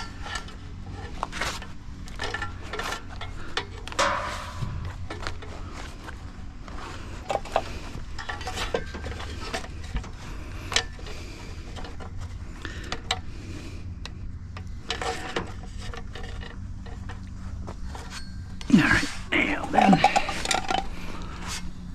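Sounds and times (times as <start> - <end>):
scrap metal clinking and rattling: 0.0 - 6.0, 7.2 - 13.3, 14.6 - 21.3
low background hum: 0.0 - 21.9.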